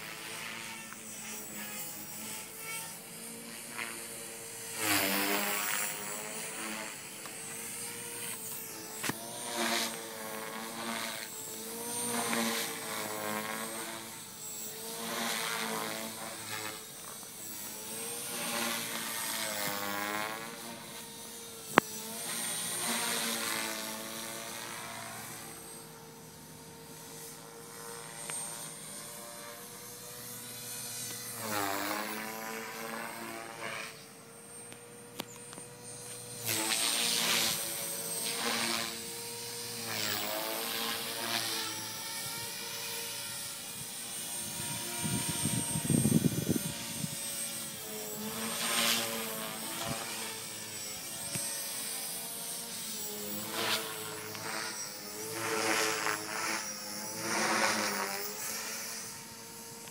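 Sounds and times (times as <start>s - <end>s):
model helicopter rotor whine: 0.0s - 59.9s.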